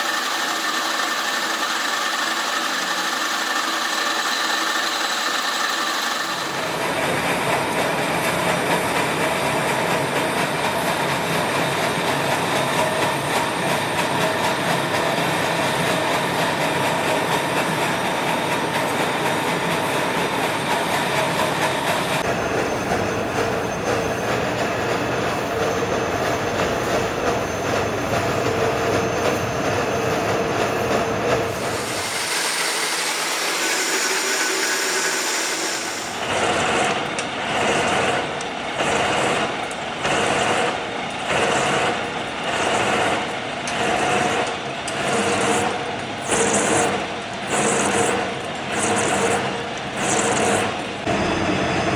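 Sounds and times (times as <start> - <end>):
heavy lathe cutting metal: 0.0 - 8.8, 18.0 - 51.9.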